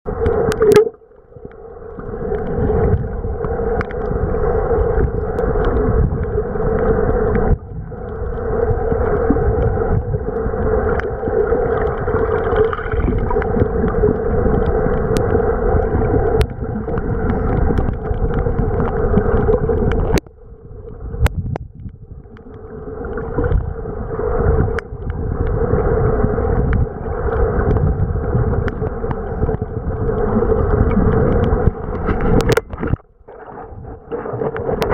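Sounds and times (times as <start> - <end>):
underwater water rush: 0.1 - 34.9.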